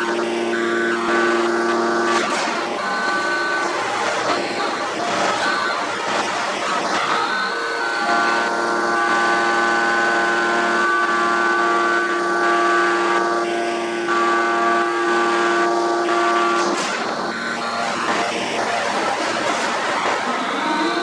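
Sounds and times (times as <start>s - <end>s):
hydraulic press whine: 0.0s - 21.0s
machine noise: 0.0s - 21.0s.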